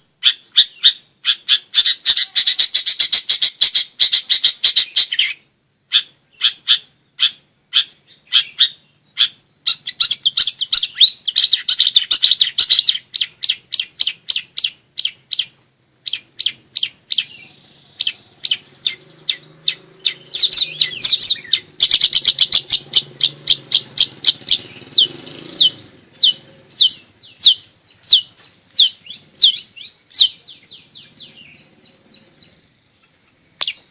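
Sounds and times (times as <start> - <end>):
bird singing sharp chips: 0.2 - 33.9.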